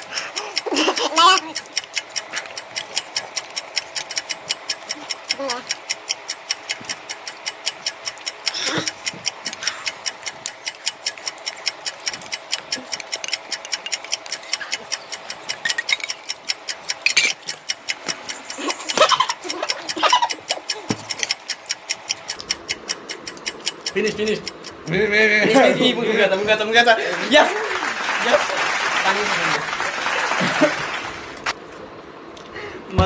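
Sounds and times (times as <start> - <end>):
fast clock-like ticking: 0.0 - 29.6.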